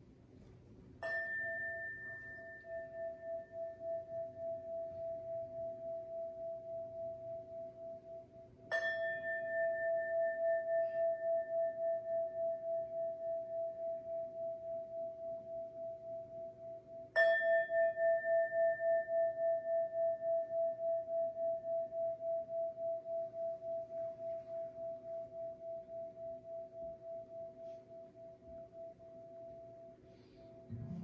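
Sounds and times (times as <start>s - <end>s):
singing bowl ringing: 1.0s - 31.0s.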